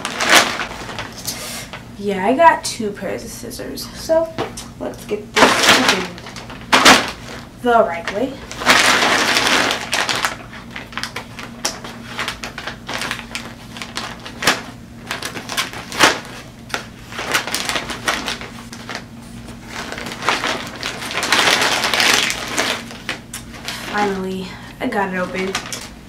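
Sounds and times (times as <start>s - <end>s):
plastic crinkling and rustling: 0.0s - 1.8s, 5.4s - 26.0s.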